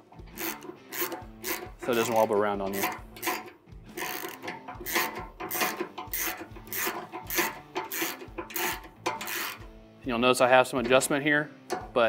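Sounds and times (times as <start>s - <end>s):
hand ratchet clicking: 0.0s - 9.7s, 11.7s - 12.0s.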